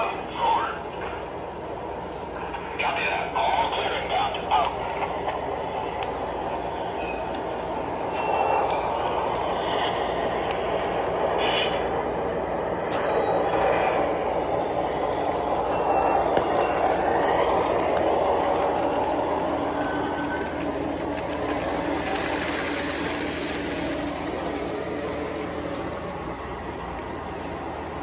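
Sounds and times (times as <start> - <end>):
model train rumbling on metal track: 0.0 - 28.0.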